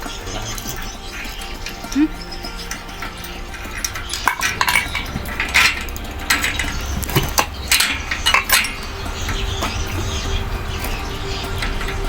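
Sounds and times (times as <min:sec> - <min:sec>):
metal parts clinking: 0:00.0 - 0:12.0.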